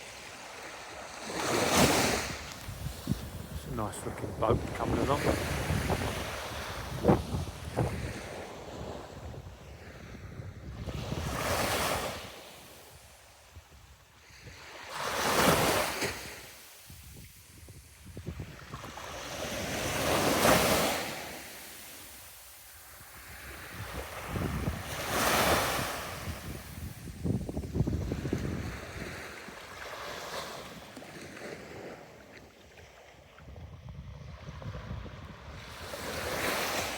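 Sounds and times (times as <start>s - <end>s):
sea waves breaking on beach: 0.0s - 36.9s.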